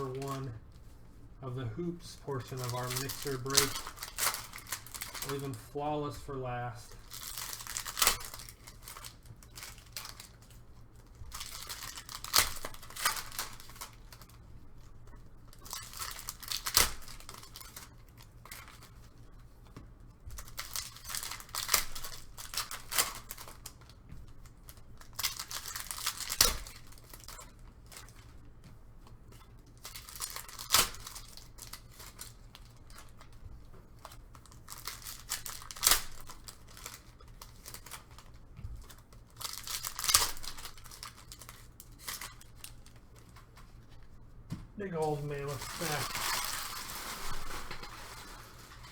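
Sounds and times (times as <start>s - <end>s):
foil wrappers ripping and crinkling: 0.0s - 19.3s, 20.4s - 28.5s, 29.3s - 44.0s, 44.8s - 48.9s.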